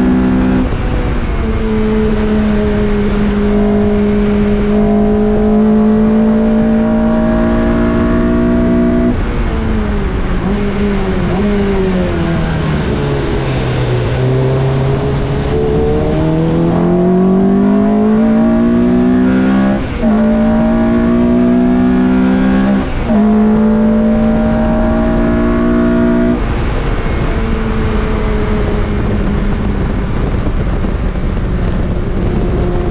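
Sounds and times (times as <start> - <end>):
race car engine accelerating: 0.0 - 32.9
wind and road noise: 0.0 - 32.9.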